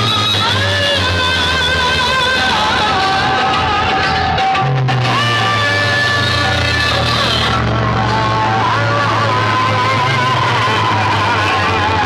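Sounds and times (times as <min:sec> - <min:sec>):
loud bass-heavy music over speakers: 0:00.0 - 0:12.0.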